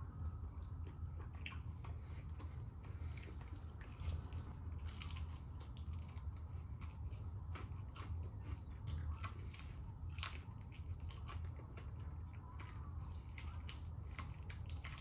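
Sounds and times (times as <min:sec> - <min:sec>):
chewing fried chicken: 0:00.0 - 0:15.0
low hum: 0:00.0 - 0:15.0
crispy crunches: 0:00.5 - 0:15.0.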